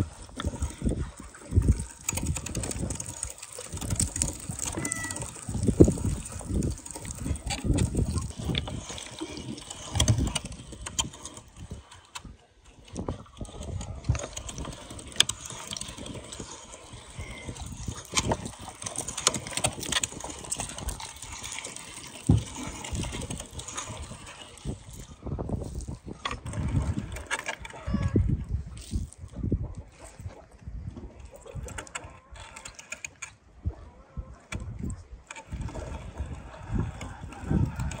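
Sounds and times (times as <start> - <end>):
meat squelching through grinder: 0.0 - 33.3, 34.4 - 38.0.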